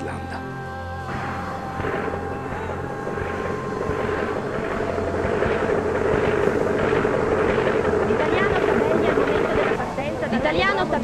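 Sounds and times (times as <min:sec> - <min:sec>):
propeller plane engine running: 0:01.6 - 0:11.0.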